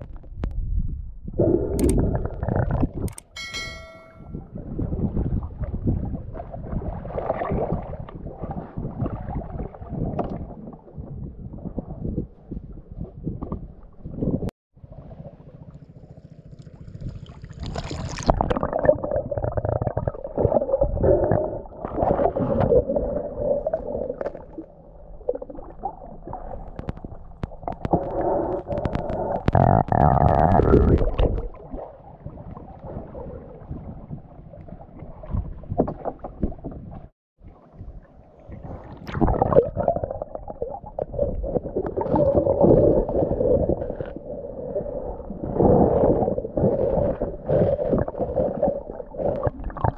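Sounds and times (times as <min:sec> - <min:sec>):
muffled underwater sloshing: 0:01.4 - 0:49.9.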